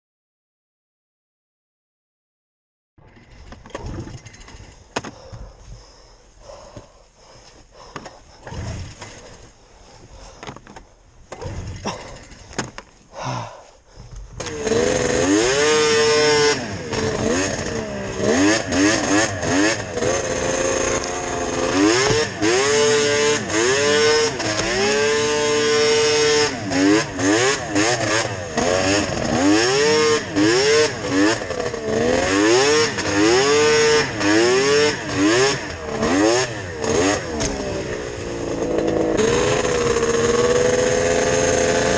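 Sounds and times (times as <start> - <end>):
snowmobile engine revving: 3.9 - 10.4, 11.3 - 12.5, 14.4 - 41.9.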